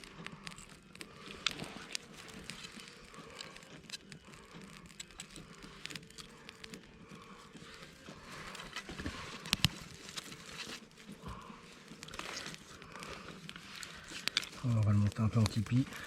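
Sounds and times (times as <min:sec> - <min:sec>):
small wood fire crackling: 0:00.0 - 0:16.0.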